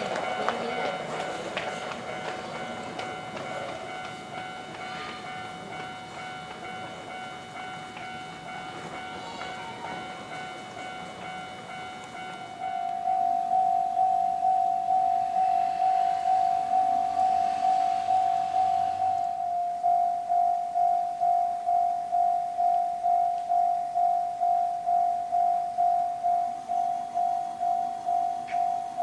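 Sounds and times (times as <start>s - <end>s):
railroad crossing alarm ringing: 0.0s - 29.0s.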